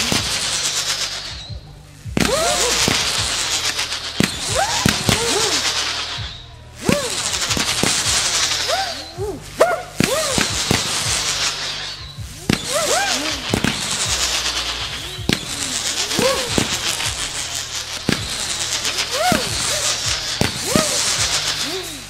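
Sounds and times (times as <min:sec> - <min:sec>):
firework bangs: 0:00.0 - 0:22.0
fireworks crackling: 0:00.0 - 0:22.0
whistling firework tones: 0:00.0 - 0:22.0.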